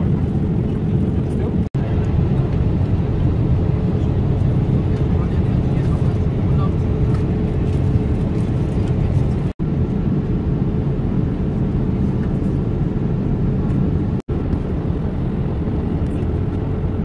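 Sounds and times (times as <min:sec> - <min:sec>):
airliner cabin rumble and hum: 0:00.0 - 0:17.0.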